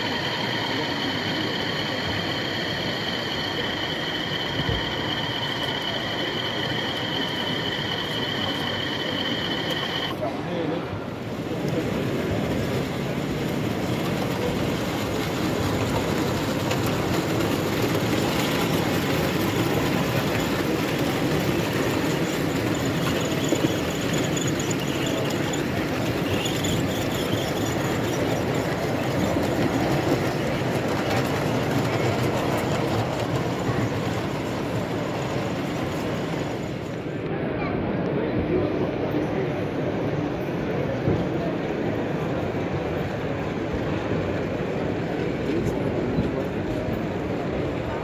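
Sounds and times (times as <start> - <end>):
model train running on track: 0.0 - 48.0.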